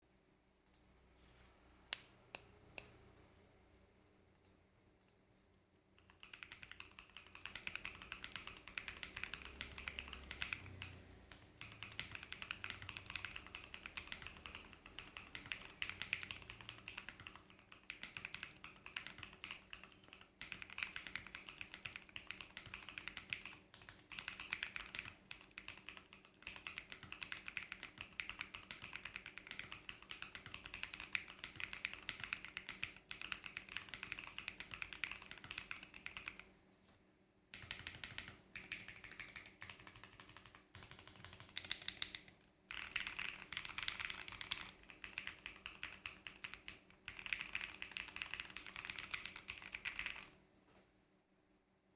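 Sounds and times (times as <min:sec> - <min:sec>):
mechanical keyboard typing: 0:06.0 - 0:36.5, 0:37.5 - 0:50.4.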